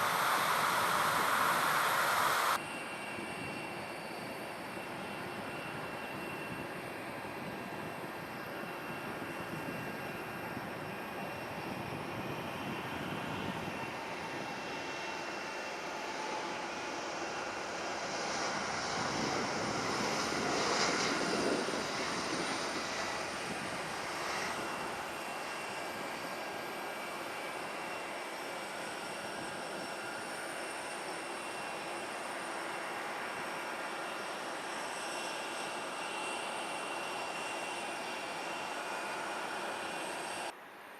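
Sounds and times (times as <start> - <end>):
airliner engine rumble: 0.0 - 40.5.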